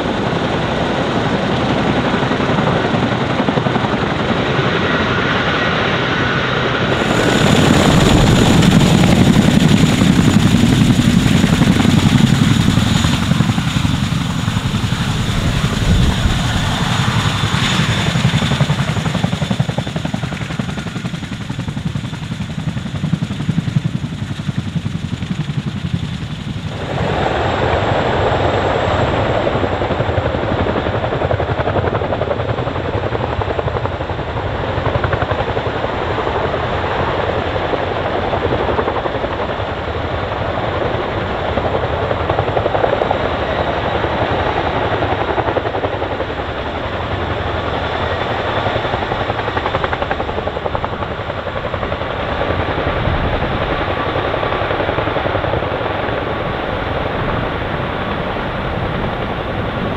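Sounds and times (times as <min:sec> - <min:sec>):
helicopter rotor beat: 0:00.0 - 0:59.9
turbine engine whine: 0:00.0 - 0:59.9.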